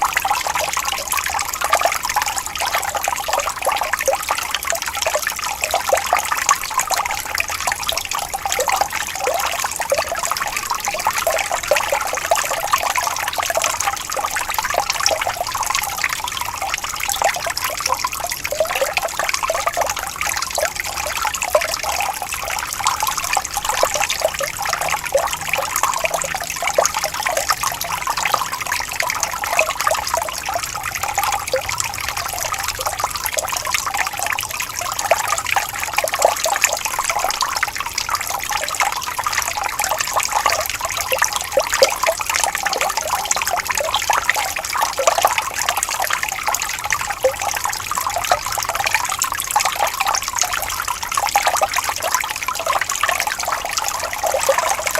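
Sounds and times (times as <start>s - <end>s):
water trickling in a stream: 0.0s - 54.9s.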